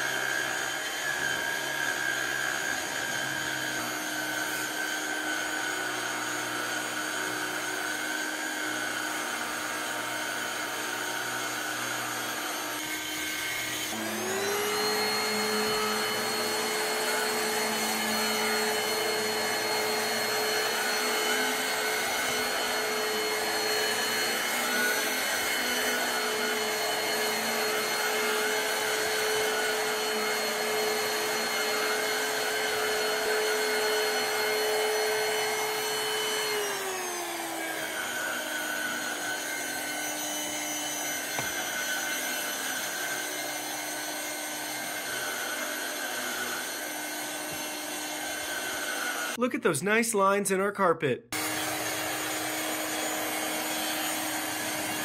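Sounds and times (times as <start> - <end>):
stick vacuum motor whine: 0.0 - 49.5, 51.3 - 55.0.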